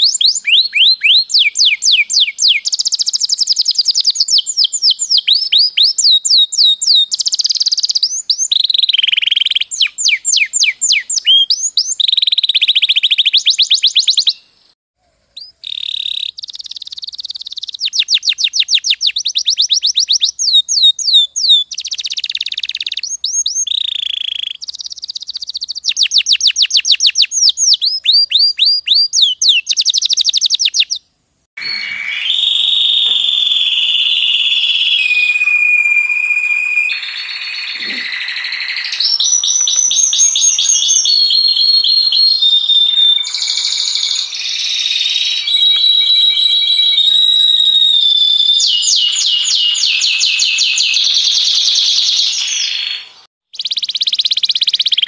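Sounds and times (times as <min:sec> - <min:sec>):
canary song: 0:00.0 - 0:55.0.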